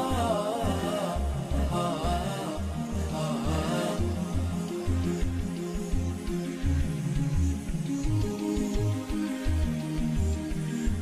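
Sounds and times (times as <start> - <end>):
electronic instrumental music: 0.0 - 11.0.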